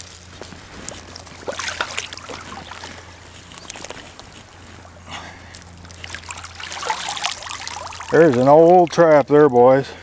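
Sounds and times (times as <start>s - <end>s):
water sloshing and splashing: 0.6s - 9.0s.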